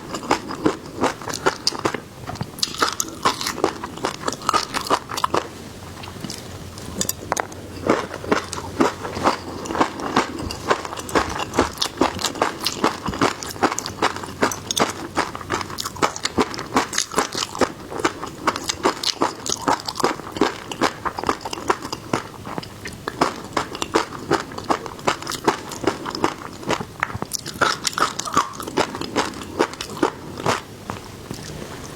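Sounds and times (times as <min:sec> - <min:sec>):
crunchy chewing of seafood: 0:00.0 - 0:31.9.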